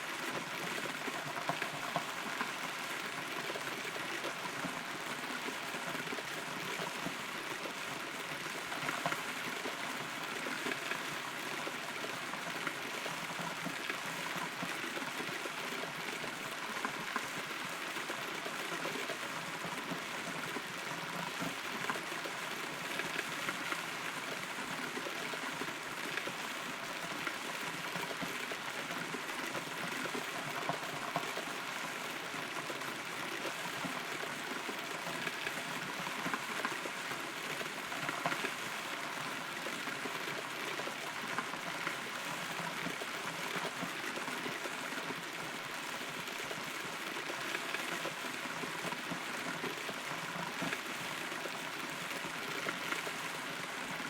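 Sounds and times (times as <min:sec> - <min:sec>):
rain pattering on hollow trunk: 0:00.1 - 0:54.0.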